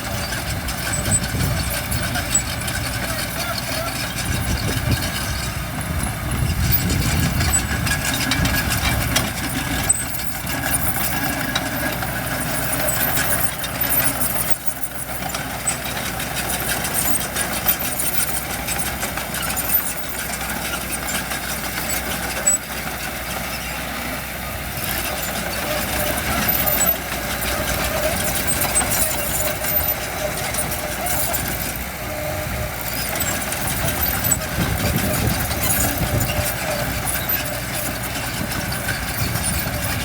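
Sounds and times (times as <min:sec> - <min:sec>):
heavy machinery diesel engines: 0:00.0 - 0:40.0.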